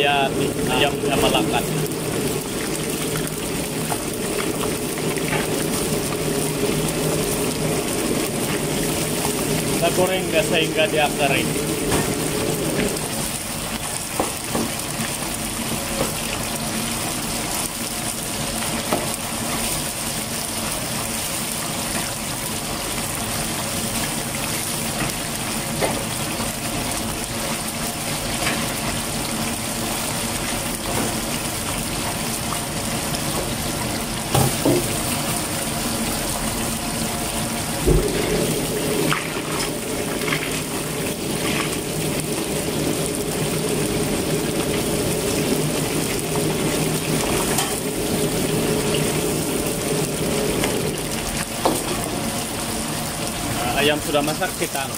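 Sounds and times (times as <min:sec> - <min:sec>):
chicken sizzling in hot oil: 0:00.0 - 0:54.9.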